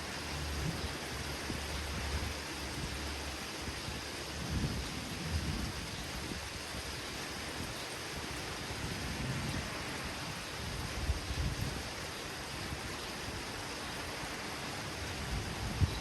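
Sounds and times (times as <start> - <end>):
heavy rain hiss: 0.0 - 16.0.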